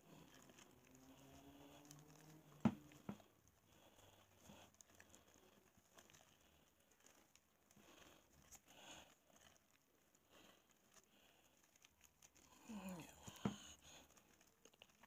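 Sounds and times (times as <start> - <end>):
hands mixing shredded soap: 0.0 - 15.0.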